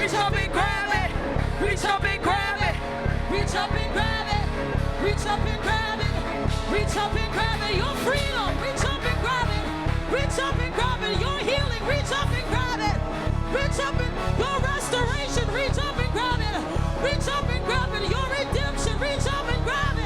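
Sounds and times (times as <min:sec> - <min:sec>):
worship band playing: 0:00.0 - 0:19.8
bass drum beat: 0:00.0 - 0:20.0
people singing: 0:00.0 - 0:20.0.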